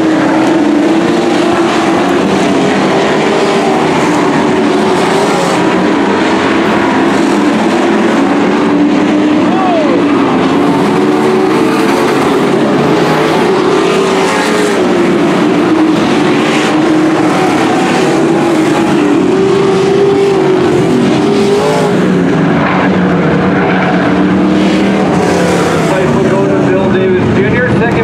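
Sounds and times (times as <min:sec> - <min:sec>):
race truck engines passing: 0:00.0 - 0:28.0.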